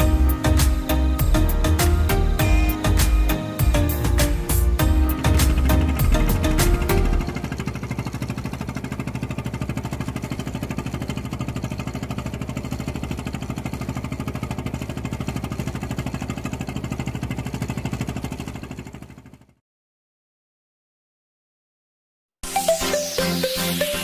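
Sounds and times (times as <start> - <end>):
small engine running: 0.0 - 19.6.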